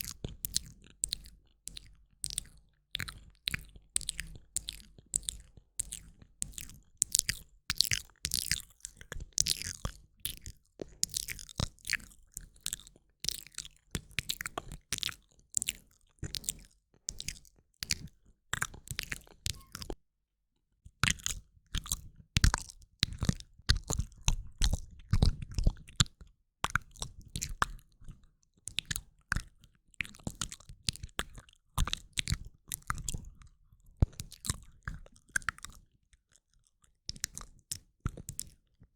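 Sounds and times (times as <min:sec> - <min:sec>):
wet mouth clicks and smacks: 0:00.0 - 0:20.0, 0:21.0 - 0:27.8, 0:28.7 - 0:33.3, 0:37.1 - 0:38.6.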